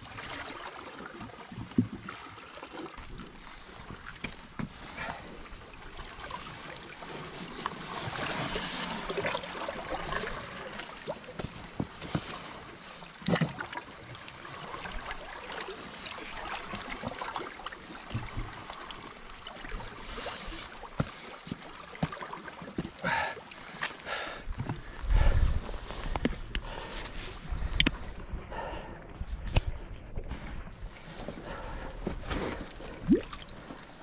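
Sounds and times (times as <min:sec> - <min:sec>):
water splashing: 0:00.0 - 0:24.3, 0:30.8 - 0:34.0
sea water sloshing on rocks: 0:00.0 - 0:28.4.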